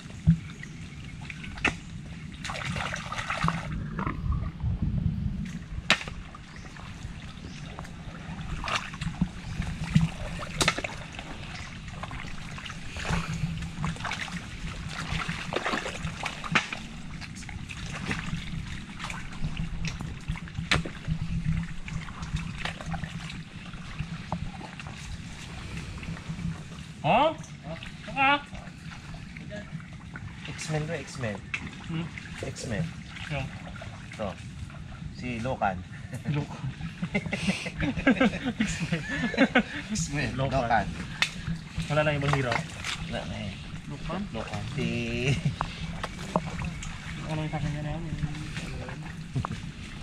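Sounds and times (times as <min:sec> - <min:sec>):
water splashing and trickling: 0:00.0 - 0:50.0.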